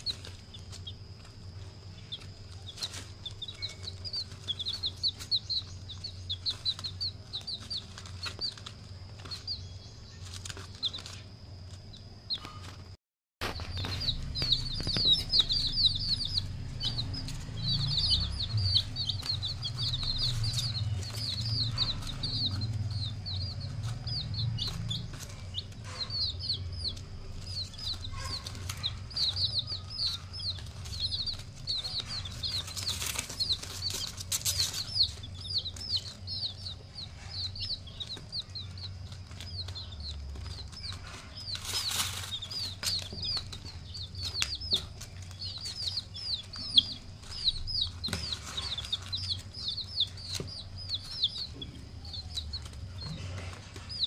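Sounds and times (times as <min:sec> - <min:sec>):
baby chicks peeping: 0:00.0 - 0:54.0
low steady hum: 0:00.0 - 0:54.0
rustles: 0:00.0 - 0:54.0.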